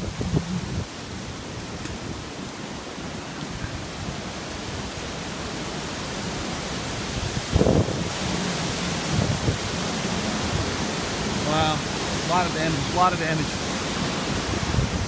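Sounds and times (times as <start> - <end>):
rain and wind hiss: 0.0 - 15.0.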